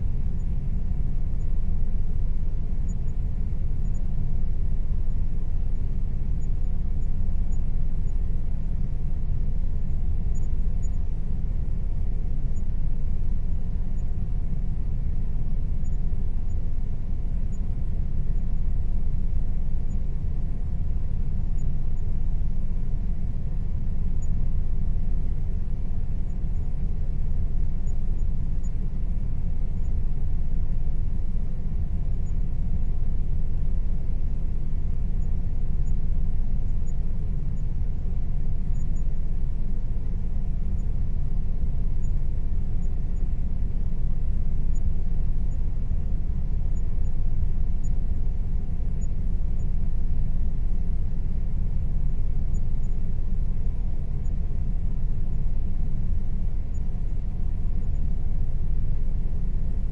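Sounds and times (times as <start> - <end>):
air conditioner running: 0.0 - 59.9
faint steady hum: 0.0 - 59.9.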